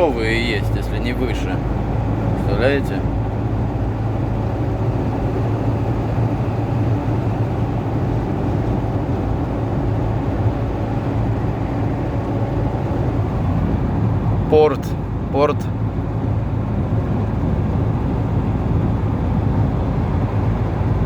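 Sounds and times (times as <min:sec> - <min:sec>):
car road and engine noise: 0:00.0 - 0:21.0
constant low hum: 0:00.0 - 0:21.0.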